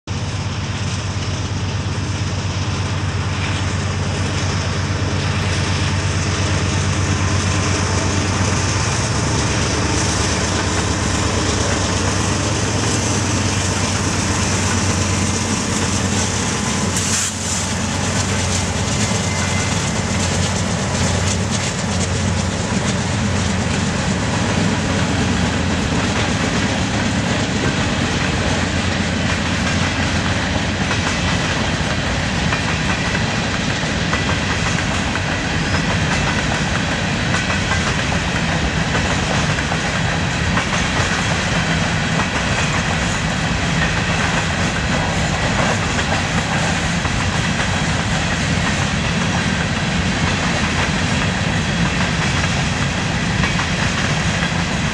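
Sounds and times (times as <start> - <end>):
diesel locomotive engines droning: 0.0 - 54.9
train wheels rumbling on rails: 0.0 - 54.9.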